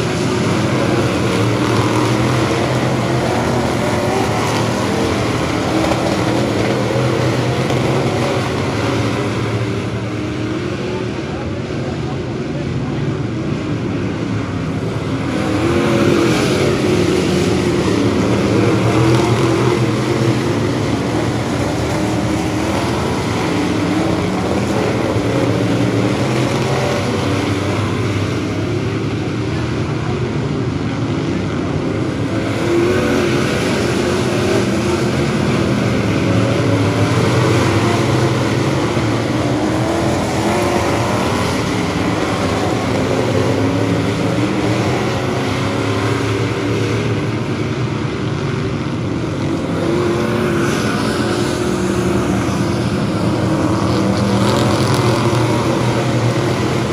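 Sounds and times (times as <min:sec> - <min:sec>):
stock car engines racing: 0:00.0 - 0:56.9.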